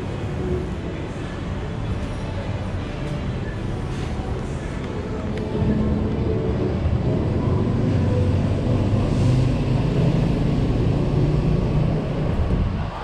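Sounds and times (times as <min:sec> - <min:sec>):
street traffic: 0:00.0 - 0:13.0
vehicle engine rumbling: 0:00.0 - 0:13.0.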